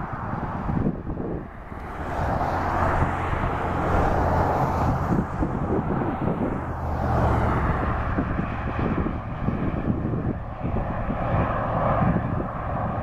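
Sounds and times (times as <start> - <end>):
car approaching on highway: 0.0 - 13.0.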